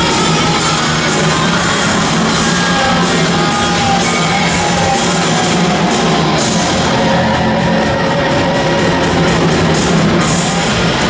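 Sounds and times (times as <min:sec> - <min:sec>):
loud rock music with guitar: 0:00.0 - 0:11.0.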